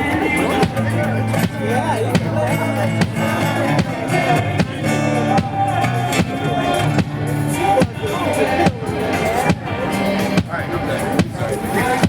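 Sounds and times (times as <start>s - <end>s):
music with drums bass and guitar: 0.0s - 12.0s.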